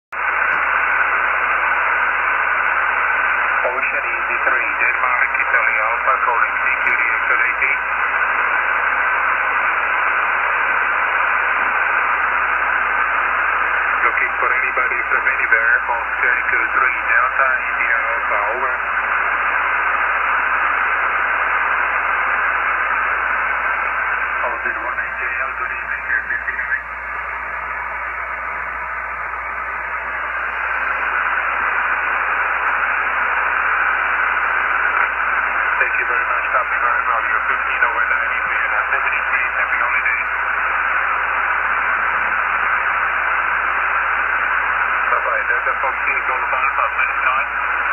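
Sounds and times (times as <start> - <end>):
radio static hiss: 0.2 - 47.9.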